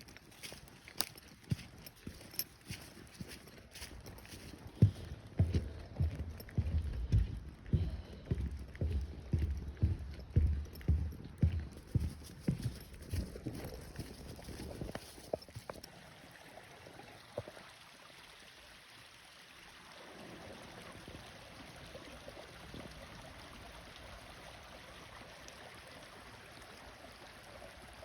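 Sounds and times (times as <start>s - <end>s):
faint brook water running: 0.0s - 28.0s.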